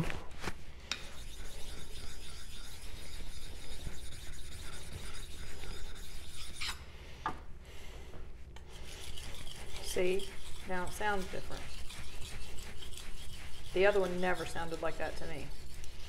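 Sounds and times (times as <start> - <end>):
block scrubbing on wet whetstone: 1.0 - 6.8, 8.7 - 16.0.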